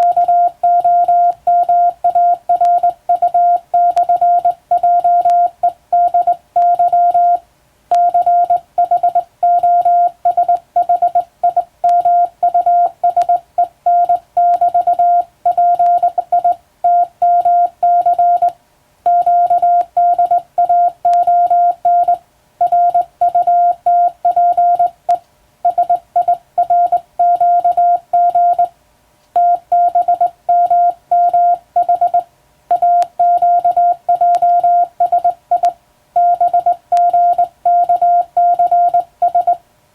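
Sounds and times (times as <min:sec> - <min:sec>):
morse code tone: 0:00.0 - 0:28.7, 0:29.4 - 0:39.6.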